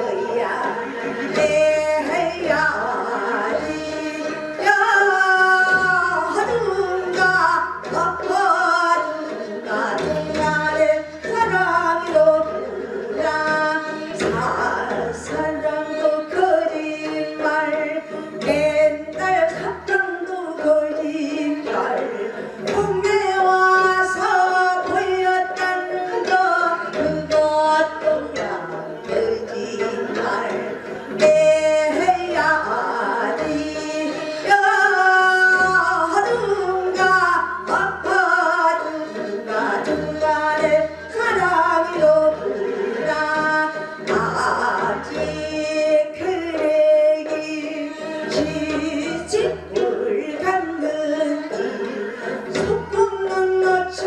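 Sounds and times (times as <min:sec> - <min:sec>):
woman singing into a microphone: 0:00.0 - 0:54.0.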